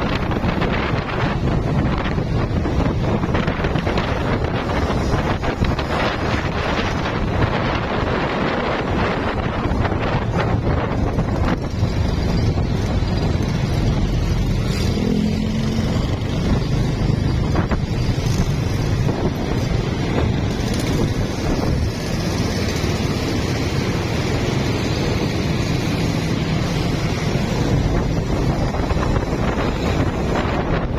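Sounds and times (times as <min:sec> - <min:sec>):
wind rushing over microphone: 0:00.0 - 0:30.9
small motorcycle running: 0:00.1 - 0:30.9.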